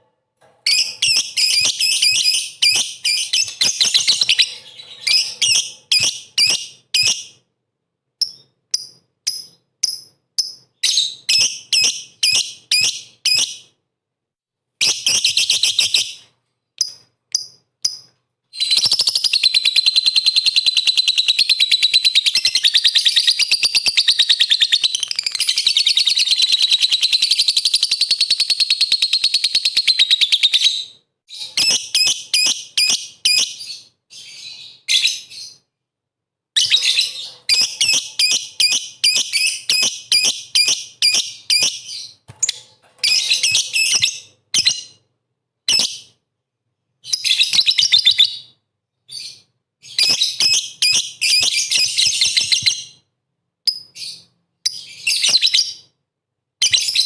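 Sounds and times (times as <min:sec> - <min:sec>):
lovebird chirping and trilling: 0:00.6 - 0:07.4, 0:08.2 - 0:13.7, 0:14.8 - 0:35.7, 0:36.6 - 0:45.0, 0:45.7 - 0:46.2, 0:47.0 - 0:53.0, 0:53.7 - 0:55.9, 0:56.6 - 0:57.0.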